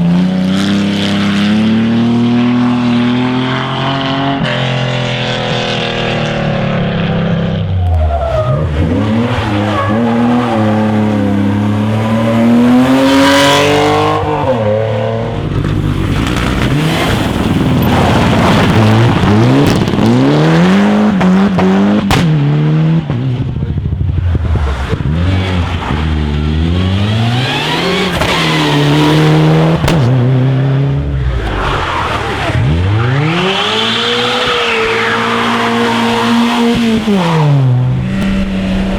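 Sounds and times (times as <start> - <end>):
cars braking: 0.0 - 38.9
rally car engines revving: 0.0 - 38.9.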